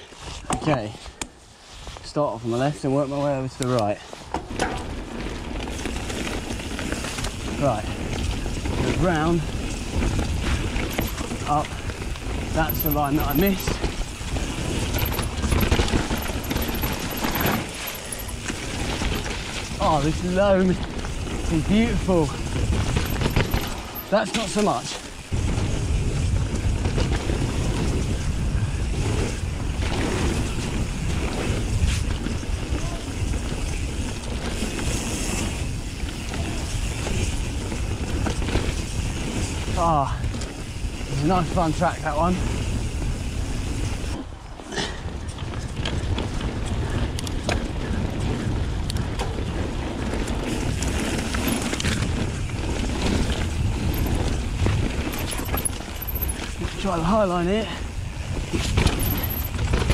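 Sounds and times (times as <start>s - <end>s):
tyres on loose dirt: 0.1s - 59.9s
bike clicks and rattles: 3.4s - 59.9s
wind buffeting microphone: 4.4s - 59.9s.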